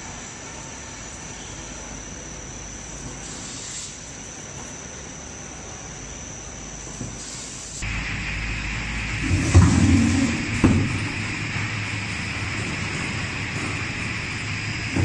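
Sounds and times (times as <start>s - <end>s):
machine drone with high whine: 0.0s - 15.0s.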